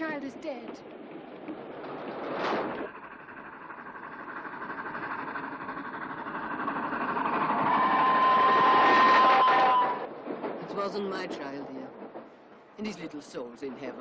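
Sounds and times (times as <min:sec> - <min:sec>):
steam locomotive chugging: 0:00.0 - 0:14.0.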